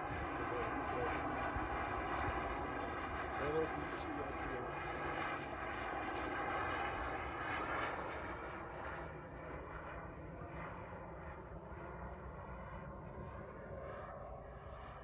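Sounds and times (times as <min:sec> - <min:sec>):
jet turbine roar with whine: 0:00.0 - 0:15.0.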